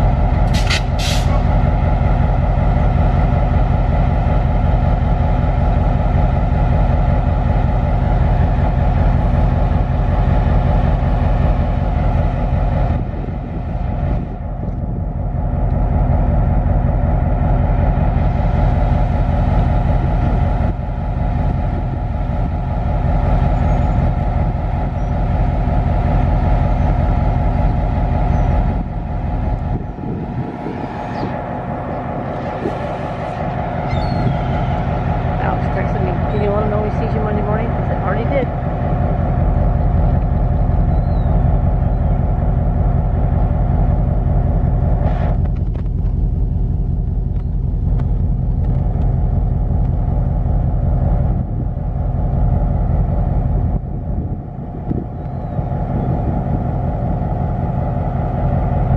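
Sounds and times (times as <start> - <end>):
heavy vehicle engine rumble: 0.0 - 58.9.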